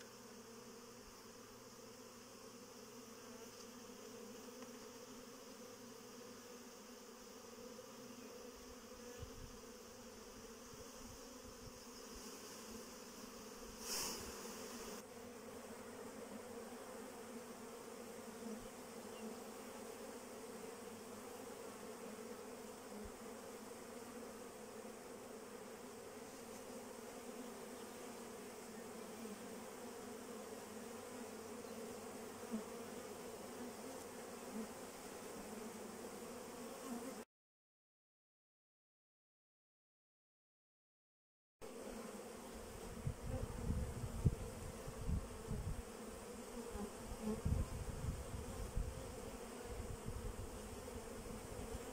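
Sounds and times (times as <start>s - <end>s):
bees buzzing: 0.0s - 37.2s, 41.6s - 51.9s.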